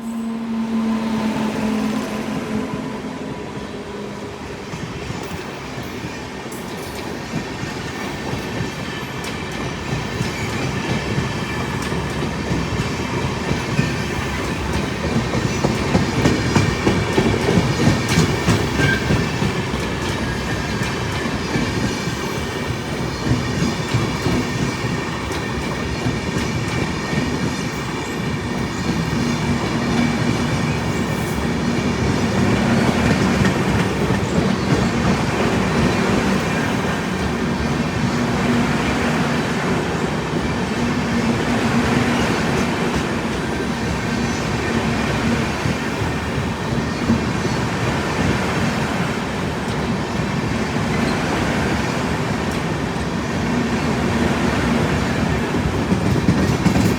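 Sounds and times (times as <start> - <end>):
train wheels clattering: 4.4 - 56.9.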